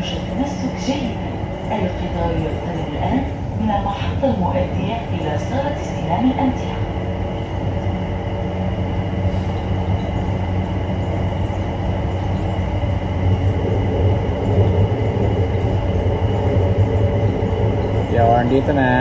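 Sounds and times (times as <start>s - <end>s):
low hum: 0.0s - 19.0s
train rolling noise: 0.0s - 19.0s.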